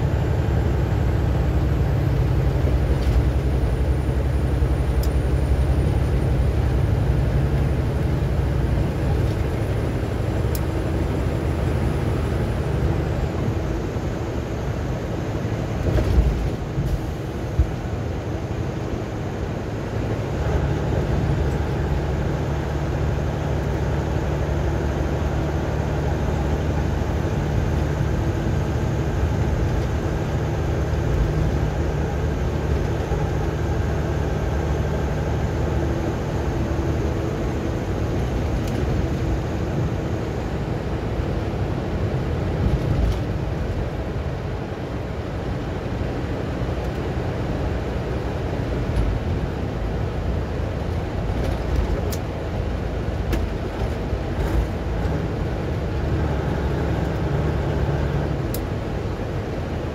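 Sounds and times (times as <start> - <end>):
vehicle road and engine rumble: 0.0 - 59.9.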